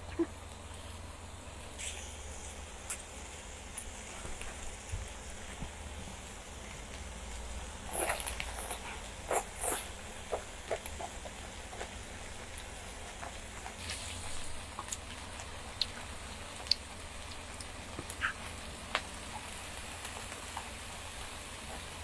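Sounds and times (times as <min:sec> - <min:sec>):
person chewing with wet smacks: 0:00.0 - 0:22.0.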